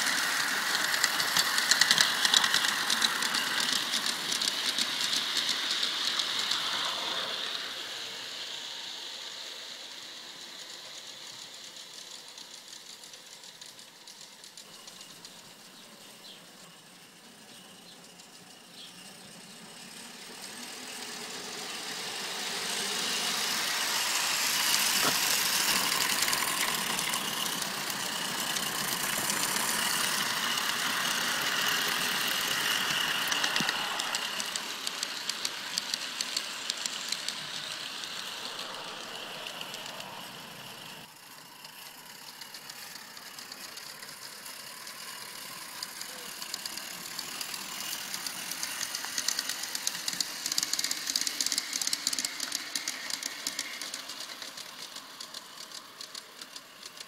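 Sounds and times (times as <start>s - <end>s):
wheels and wagons rattling: 0.0s - 6.9s, 12.0s - 57.0s
steam locomotive chuffing: 0.0s - 57.0s.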